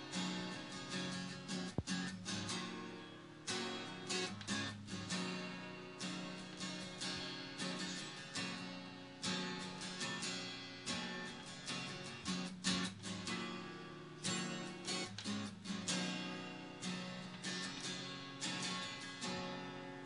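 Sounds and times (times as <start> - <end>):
acoustic guitar played with a pick: 0.0 - 20.0.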